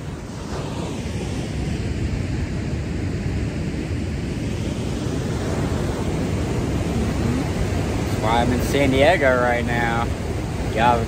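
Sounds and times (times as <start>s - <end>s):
ocean surf breaking over rocks: 0.0s - 11.0s.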